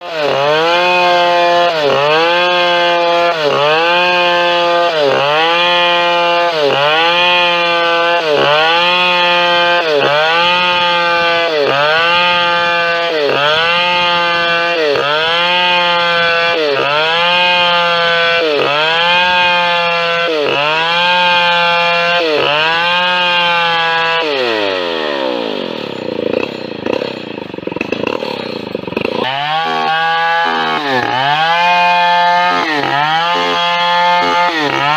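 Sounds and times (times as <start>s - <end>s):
chainsaw running at high revs: 0.0s - 34.9s.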